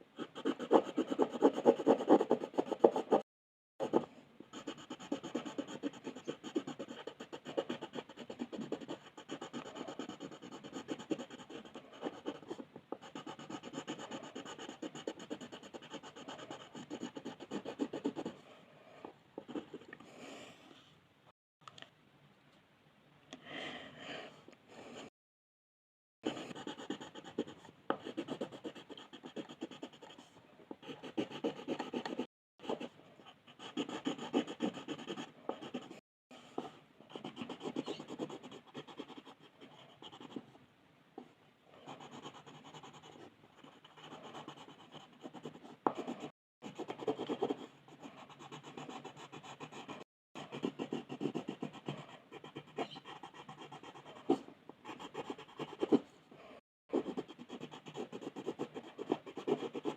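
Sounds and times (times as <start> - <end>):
pencil scratching on paper: 0.2 - 3.2, 3.8 - 18.4, 19.4 - 19.9, 26.2 - 36.0, 36.6 - 40.5, 41.8 - 56.1, 56.9 - 59.9.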